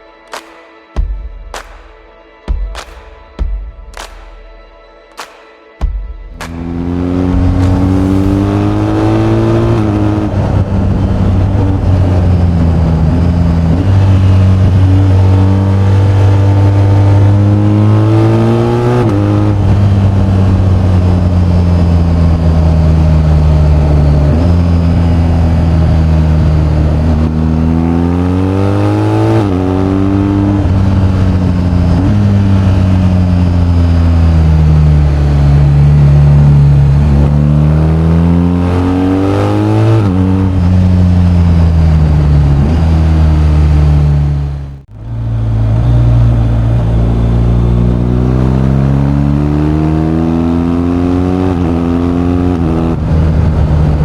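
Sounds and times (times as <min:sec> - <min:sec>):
motorcycle engine accelerating: 0:06.3 - 0:54.0.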